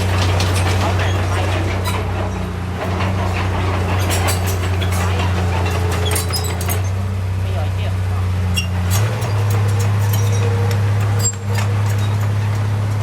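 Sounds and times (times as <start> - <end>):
metallic clanks and rattles: 0.0 - 7.2, 8.6 - 13.0
heavy diesel engine running: 0.0 - 13.0.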